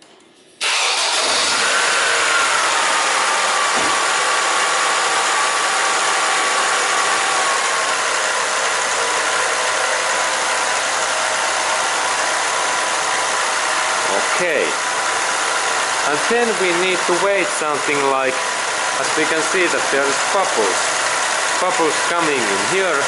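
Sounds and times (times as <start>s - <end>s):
car engine starting and idling: 0.6s - 23.0s.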